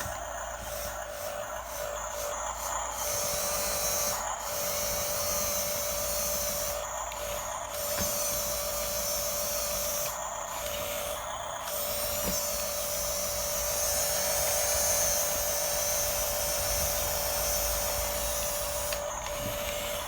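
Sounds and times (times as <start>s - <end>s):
small electric motors whining: 0.0s - 20.0s.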